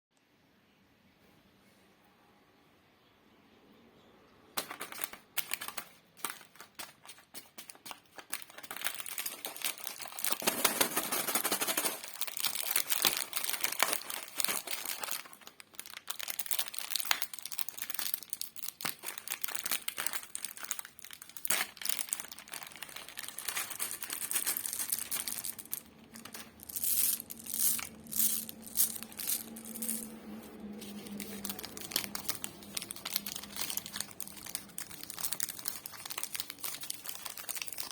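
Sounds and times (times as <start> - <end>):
plastic wrappers crinkling: 4.6 - 37.9.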